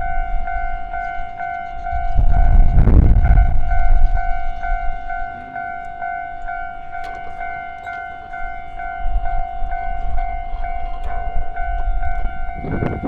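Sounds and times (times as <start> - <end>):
level crossing alarm clanging: 0.0 - 13.0.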